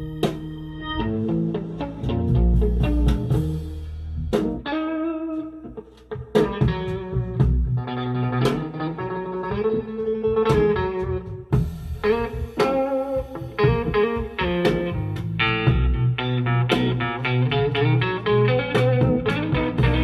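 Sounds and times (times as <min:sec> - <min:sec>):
bass line: 0:00.0 - 0:04.8, 0:06.4 - 0:20.0
plucked guitar music: 0:00.0 - 0:20.0.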